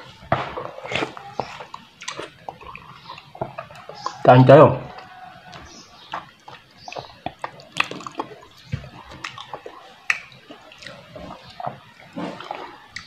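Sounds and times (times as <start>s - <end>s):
wet mouth smacks and chewing: 0.6s - 4.2s, 5.0s - 13.0s.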